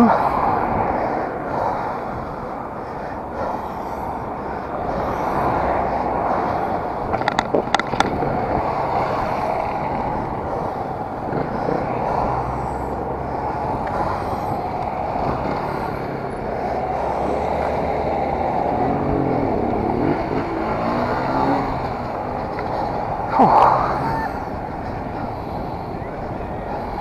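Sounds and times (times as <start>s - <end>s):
road and traffic noise: 0.0s - 27.0s.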